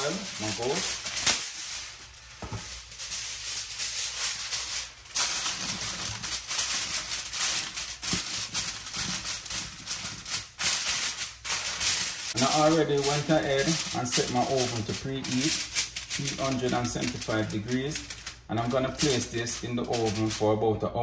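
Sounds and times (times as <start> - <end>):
aluminium foil crinkling: 0.0 - 20.6.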